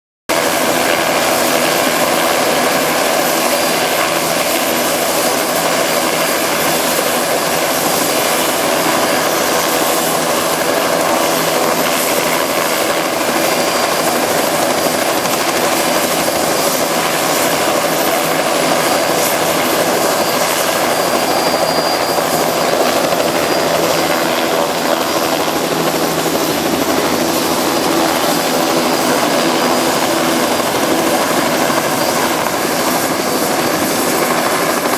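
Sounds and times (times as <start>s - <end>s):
helicopter rotors droning: 0.3s - 34.9s.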